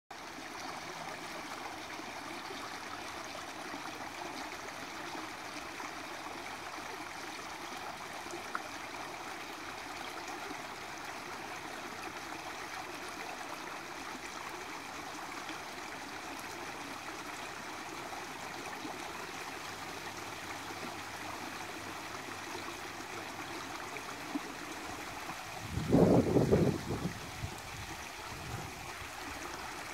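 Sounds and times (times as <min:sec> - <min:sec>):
creek cascading over logs: 0:00.2 - 0:29.9.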